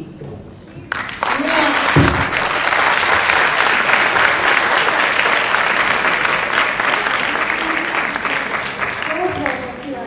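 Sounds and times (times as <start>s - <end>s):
audience applauding: 0.9s - 9.9s.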